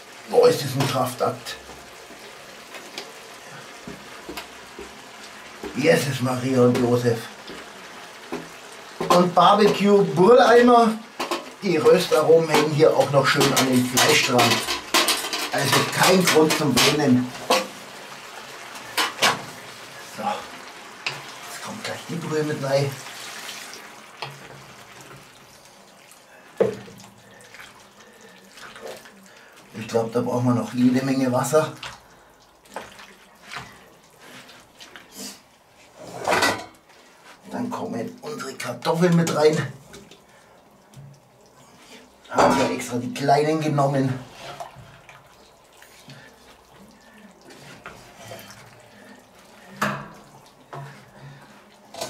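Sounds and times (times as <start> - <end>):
broth pouring and splashing: 0.0 - 52.0
spatula stirring stew: 0.1 - 52.0.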